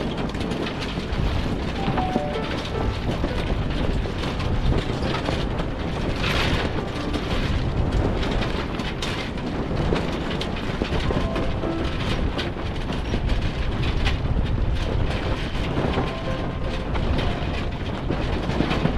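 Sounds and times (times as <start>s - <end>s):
knocks and rattles: 0.0s - 18.9s
rumble of wind and water: 0.0s - 18.9s
strong wind rushing: 0.0s - 18.9s.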